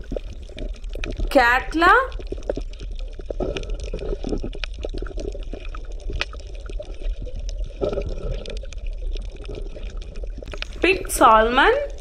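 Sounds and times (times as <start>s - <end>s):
water bubbling: 0.0s - 12.0s.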